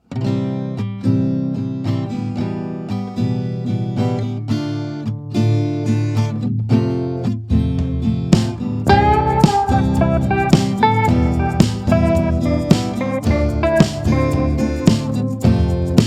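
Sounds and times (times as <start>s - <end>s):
background music with strummed guitar: 0.0s - 16.0s.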